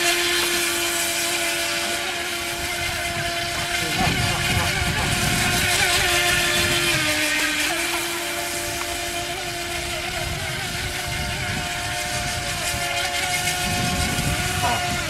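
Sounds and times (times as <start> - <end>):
motor whine: 0.0 - 15.0
wind rumble on microphone: 2.4 - 15.0.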